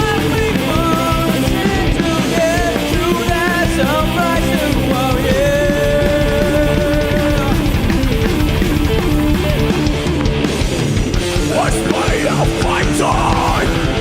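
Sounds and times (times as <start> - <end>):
live metal band playing: 0.0 - 14.0.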